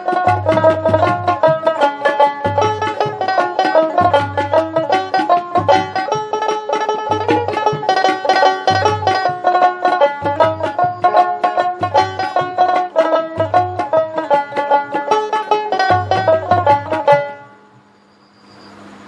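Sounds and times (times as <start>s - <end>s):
plucked-string tune: 0.0s - 17.9s.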